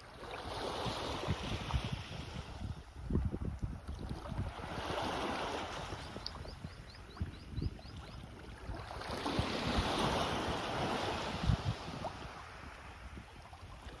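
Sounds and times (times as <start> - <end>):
small waves washing on beach: 0.0 - 14.0.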